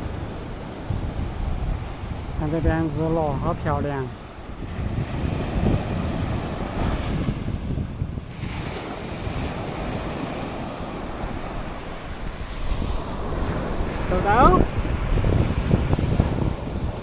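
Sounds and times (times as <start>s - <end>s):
sea waves breaking on shore: 0.0s - 17.0s
wind buffeting microphone: 0.0s - 17.0s.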